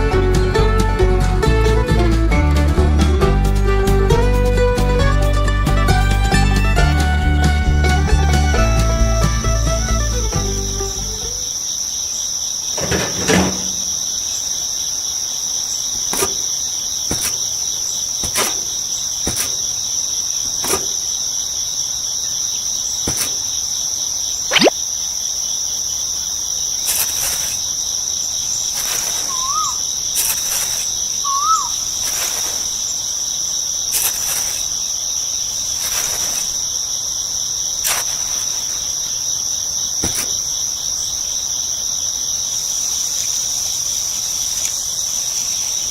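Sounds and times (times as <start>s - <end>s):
crickets chirping: 9.0s - 45.9s.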